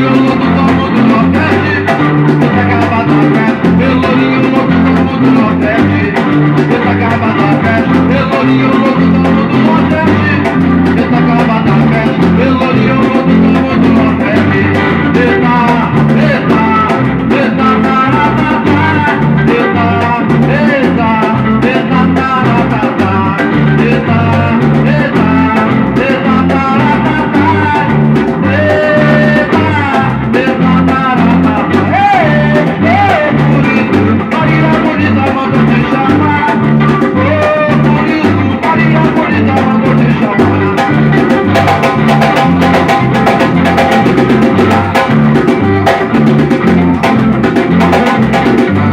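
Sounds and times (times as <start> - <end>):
band playing instrumental groove: 0.0 - 48.9
bending lead melody: 0.0 - 48.9.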